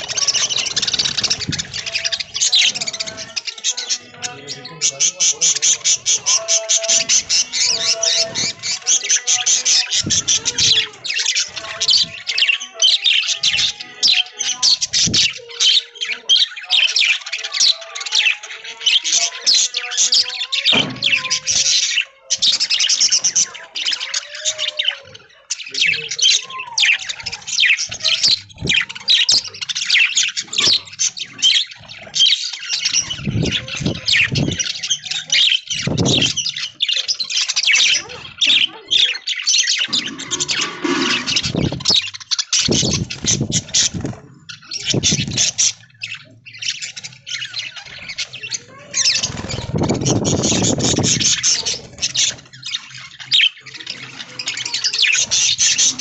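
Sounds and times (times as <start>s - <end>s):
budgerigars chattering and squawking: 0.0s - 56.0s.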